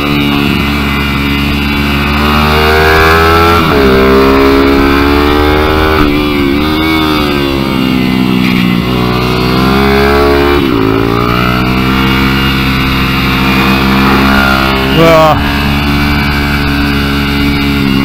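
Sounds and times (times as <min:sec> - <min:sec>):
mini-bike engine revving: 0:00.0 - 0:18.0.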